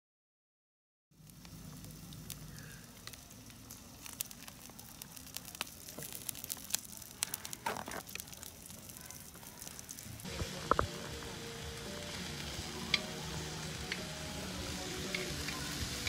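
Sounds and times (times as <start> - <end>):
meat sizzling on a griddle: 1.2 - 16.0.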